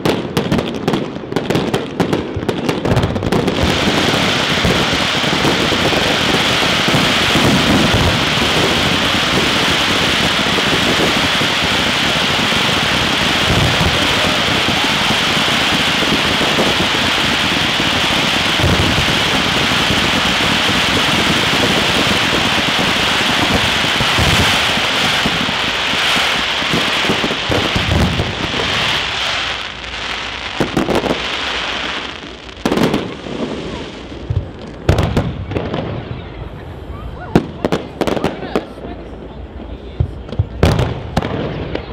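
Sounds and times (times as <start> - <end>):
deep fireworks booms: 0.0 - 41.9
fireworks crackling: 0.0 - 41.9.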